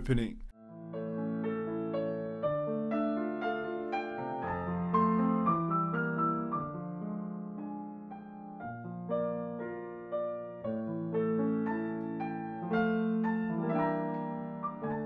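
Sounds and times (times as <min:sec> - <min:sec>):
gentle piano music: 0:00.6 - 0:15.0.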